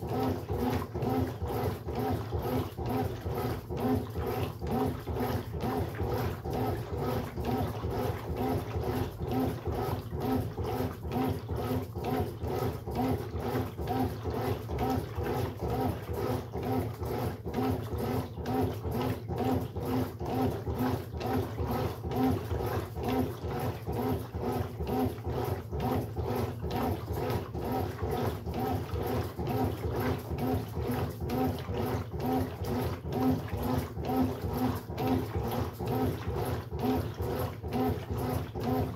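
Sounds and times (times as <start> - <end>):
washing machine churning: 0.0 - 38.9.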